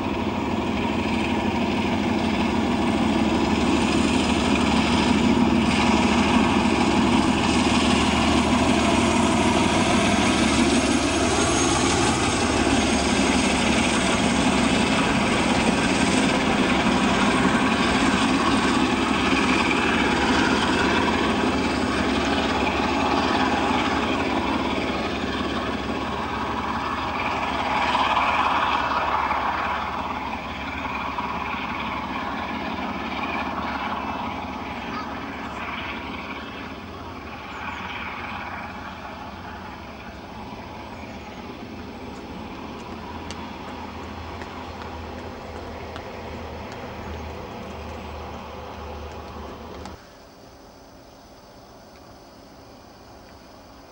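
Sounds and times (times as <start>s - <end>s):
diesel locomotive engine rumble: 0.0s - 53.9s.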